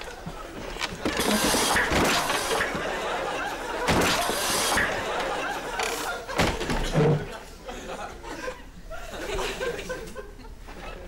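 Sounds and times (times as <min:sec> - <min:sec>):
studio audience laughing: 0:00.0 - 0:11.0.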